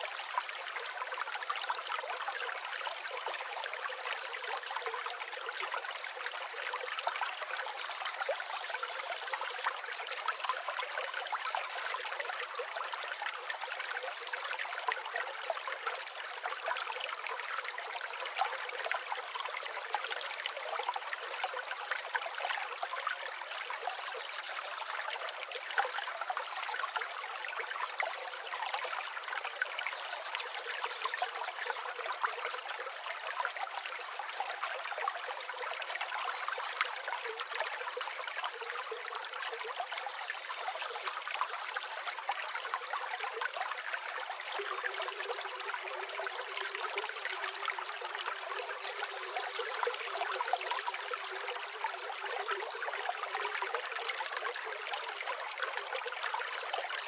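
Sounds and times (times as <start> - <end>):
stream flowing and babbling: 0.0 - 57.0.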